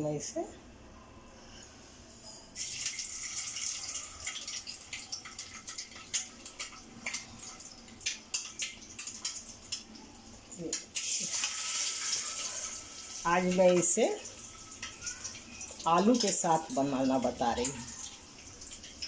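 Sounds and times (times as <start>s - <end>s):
hot oil sizzling and crackling: 2.6s - 19.0s.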